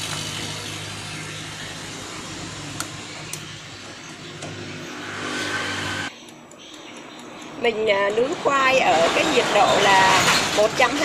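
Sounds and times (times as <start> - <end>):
oven humming: 0.0 - 11.0.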